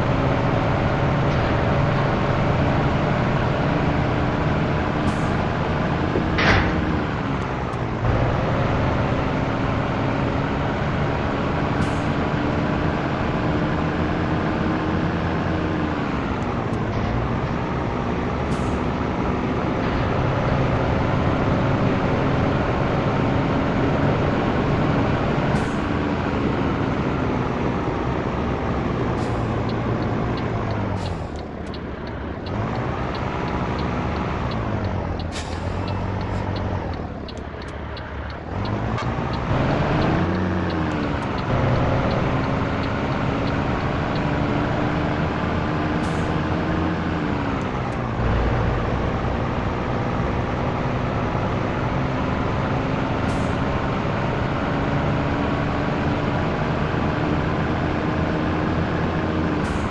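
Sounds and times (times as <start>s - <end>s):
diesel truck engine pulling away: 0.0s - 59.9s.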